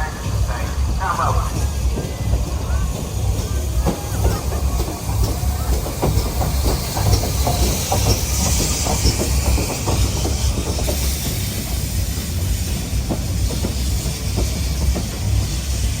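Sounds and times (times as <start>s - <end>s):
steam hissing: 0.0s - 16.0s
steam train rumbling: 0.0s - 16.0s.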